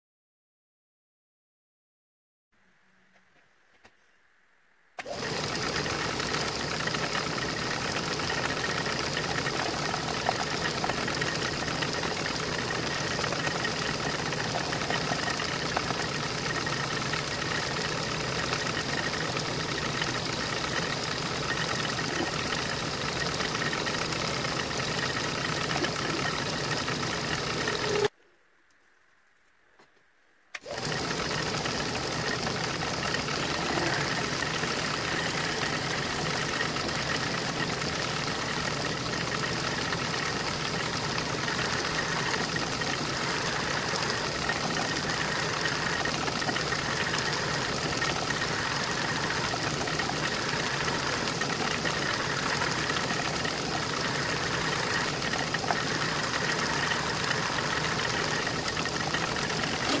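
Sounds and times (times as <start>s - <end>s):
milling machine motor hum and whine: 5.0s - 28.1s, 30.6s - 60.0s.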